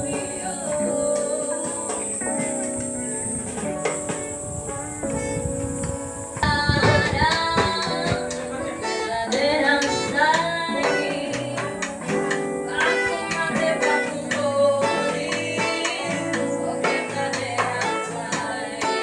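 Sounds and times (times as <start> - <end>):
person singing: 0.0 - 19.0
plucked guitar: 0.0 - 19.0.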